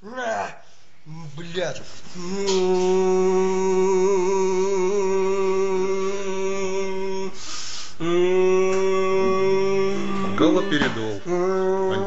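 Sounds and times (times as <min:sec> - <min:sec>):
man singing long note: 0:02.1 - 0:12.0.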